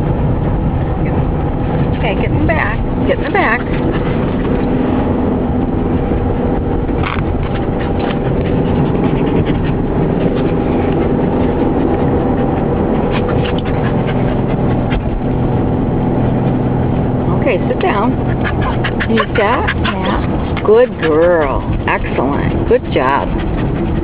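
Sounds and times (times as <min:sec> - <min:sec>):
car engine and road drone: 0:00.0 - 0:24.0.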